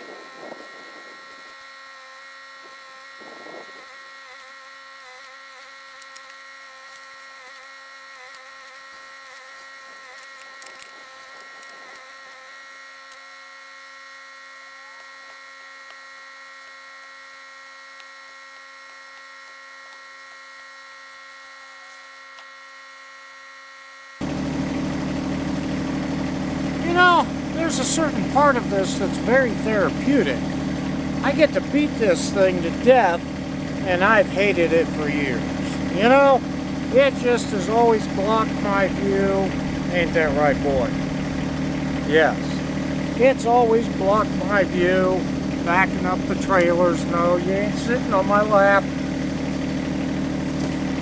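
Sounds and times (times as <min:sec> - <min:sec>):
tractor engine hum and whine: 0:00.0 - 0:23.0, 0:24.0 - 0:51.0.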